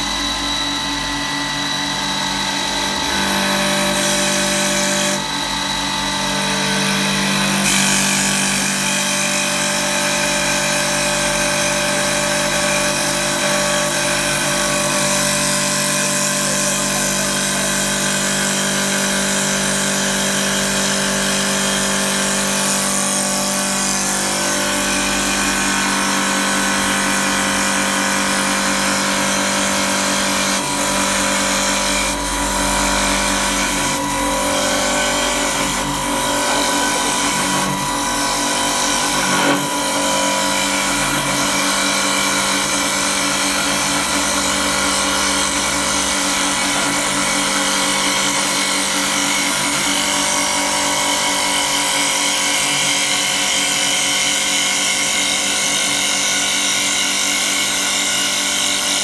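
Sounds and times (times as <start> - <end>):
wood lathe motor hum and whine: 0.0 - 59.0.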